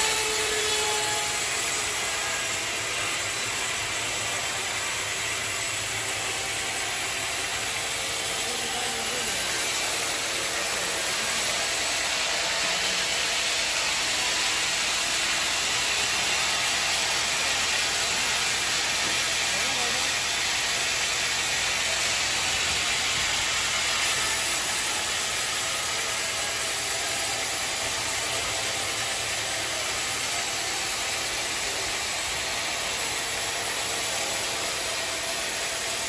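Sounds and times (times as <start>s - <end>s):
band saw cutting wood: 0.0s - 36.0s.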